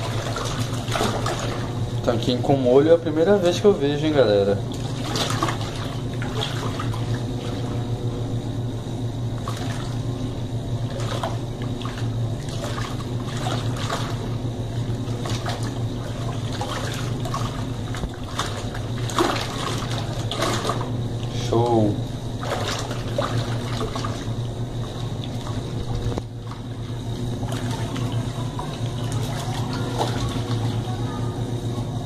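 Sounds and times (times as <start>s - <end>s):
water sloshing and churning: 0.0s - 8.3s, 9.2s - 31.6s
washing machine motor hum: 0.0s - 32.0s.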